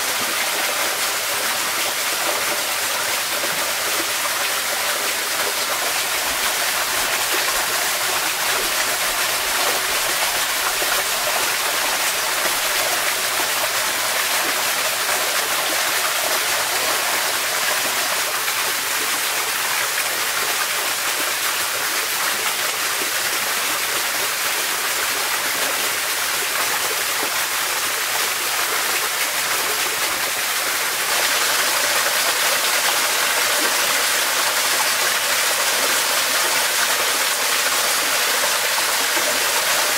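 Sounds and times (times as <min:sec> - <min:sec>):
stream of water rushing: 0:00.0 - 0:39.9.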